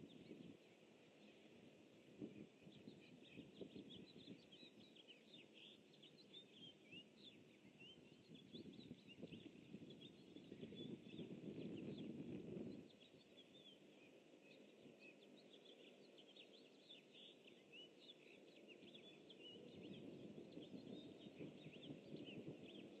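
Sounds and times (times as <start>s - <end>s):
faint bird chirps: 2.2s - 23.0s.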